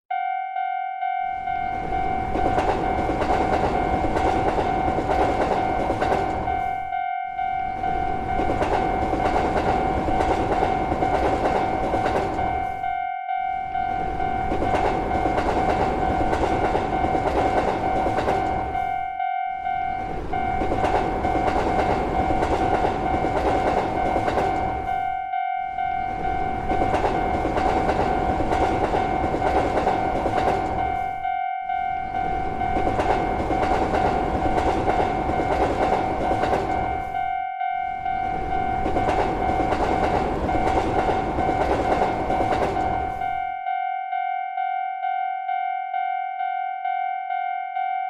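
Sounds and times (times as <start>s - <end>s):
railroad crossing bell: 0.1s - 48.0s
train rumbling and clattering: 1.3s - 13.0s, 13.6s - 43.8s.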